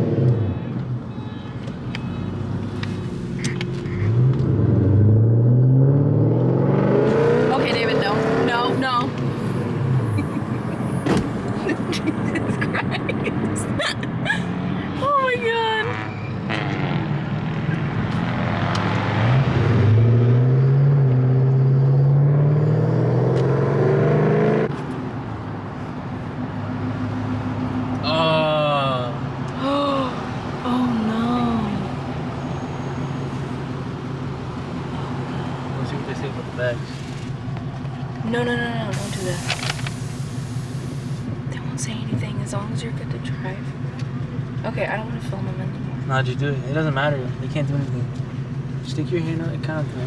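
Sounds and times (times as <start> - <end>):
car engine revving: 2.5 - 50.0.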